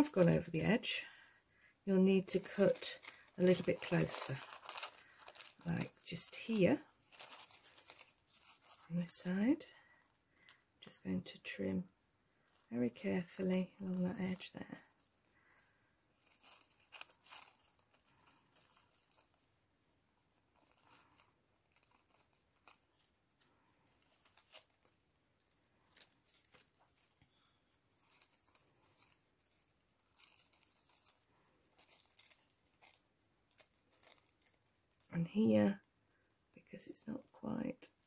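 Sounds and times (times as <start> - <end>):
paper crinkling: 0.0 - 11.0, 12.3 - 35.9.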